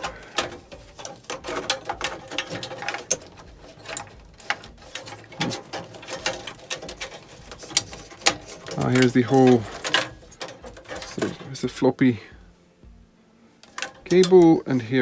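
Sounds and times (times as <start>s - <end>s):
cable connectors clicking: 0.0s - 11.6s, 13.6s - 14.6s.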